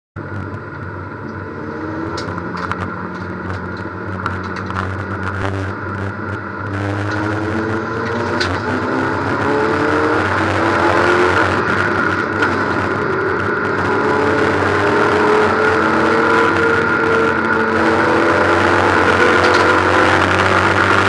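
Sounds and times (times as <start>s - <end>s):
race car engine accelerating: 0.3s - 21.0s.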